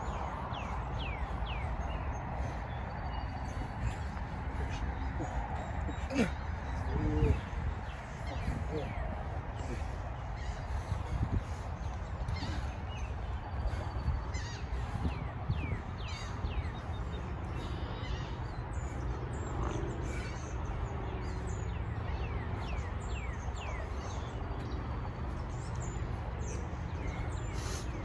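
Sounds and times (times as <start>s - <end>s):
birds chirping: 0.0s - 28.0s
steady low rumble: 0.0s - 28.0s.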